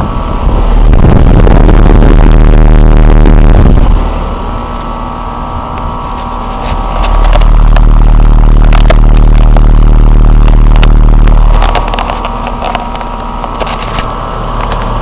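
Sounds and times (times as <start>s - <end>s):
hvac fan humming: 0.0s - 15.0s.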